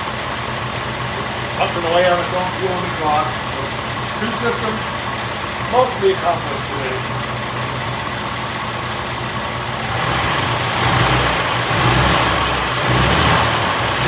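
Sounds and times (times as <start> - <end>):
old car engine idling: 0.0 - 14.0.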